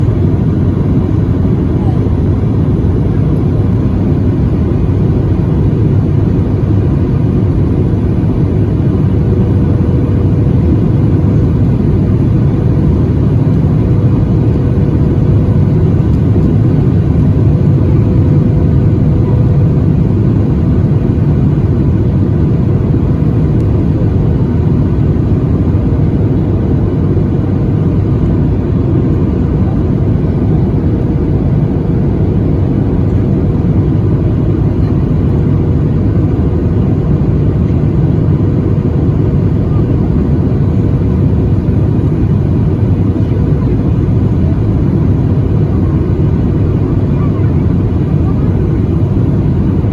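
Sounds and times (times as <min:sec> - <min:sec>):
airplane cabin engine rush: 0:00.0 - 0:49.9
faint steady hum: 0:00.0 - 0:49.9.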